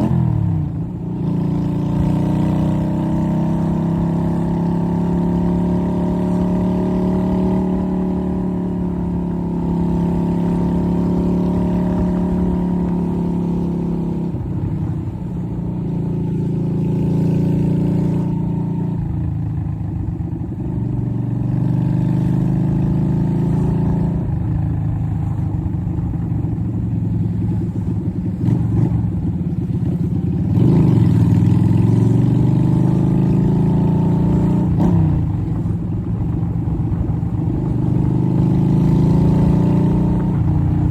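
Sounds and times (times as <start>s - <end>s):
motorcycle engine revving while riding: 0.0s - 40.9s.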